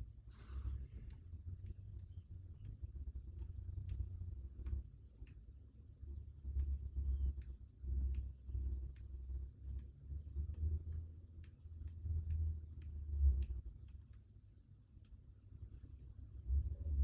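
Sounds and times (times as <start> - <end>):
low rumble from desk work: 0.0 - 5.4, 6.0 - 14.2, 15.4 - 17.0
light clicks and ticks: 0.3 - 17.0.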